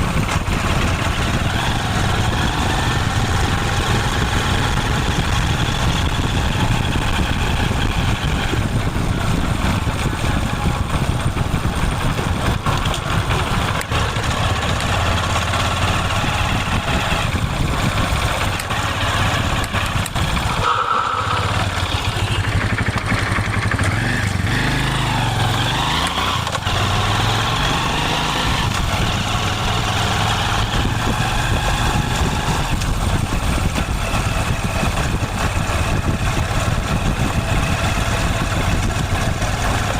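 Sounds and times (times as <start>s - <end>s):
motorcycle engine idling: 0.0s - 25.2s, 28.8s - 39.9s.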